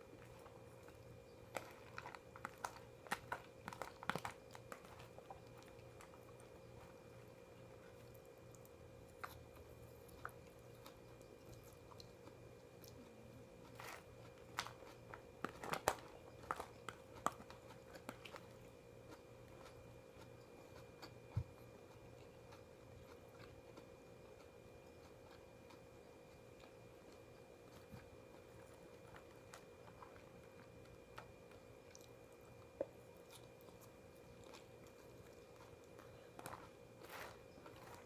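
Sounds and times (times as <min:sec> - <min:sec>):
faint steady hum: 0:00.0 - 0:38.0
person chewing food: 0:00.0 - 0:38.0.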